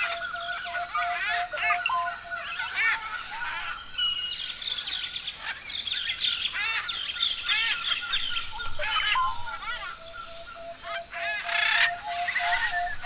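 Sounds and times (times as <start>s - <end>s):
parrots chirping and chattering: 0.0s - 13.0s.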